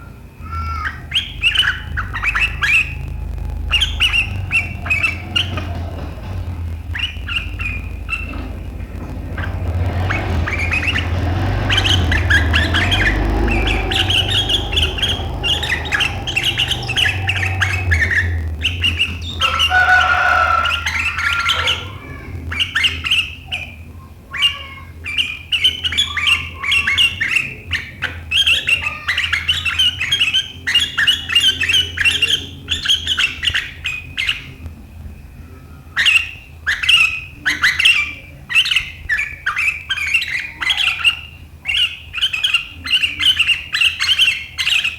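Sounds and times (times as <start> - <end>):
bird chattering calls: 0.0 - 34.6, 35.9 - 44.9
low steady hum: 0.0 - 44.9.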